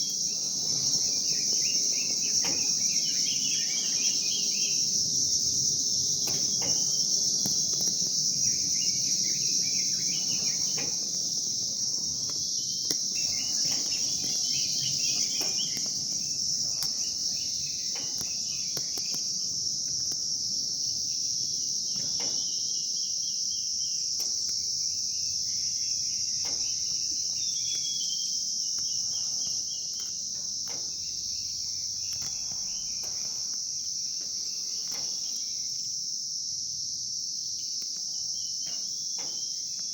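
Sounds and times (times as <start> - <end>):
small birds chirping: 0.0 - 36.1, 37.4 - 39.9
high-pitched insect trill: 0.0 - 39.9.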